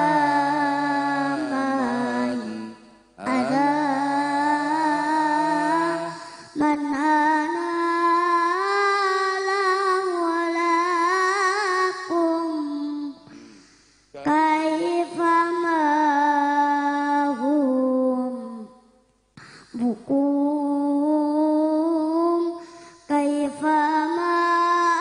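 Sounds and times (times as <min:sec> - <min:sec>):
boy singing into microphone: 0:00.0 - 0:25.0.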